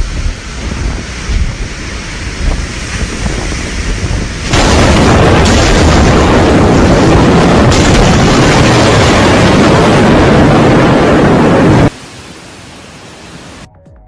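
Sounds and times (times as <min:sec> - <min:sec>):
wind blasting microphone: 0:00.0 - 0:12.3.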